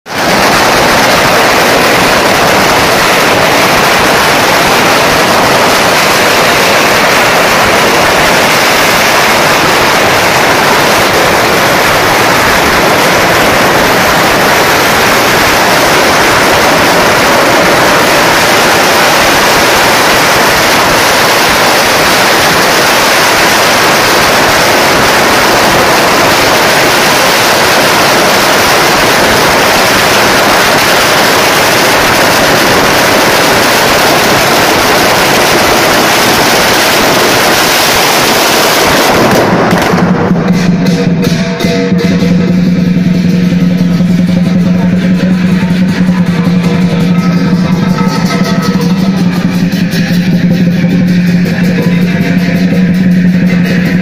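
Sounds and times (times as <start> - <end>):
firecrackers crackling rapidly: 0.0 - 54.0.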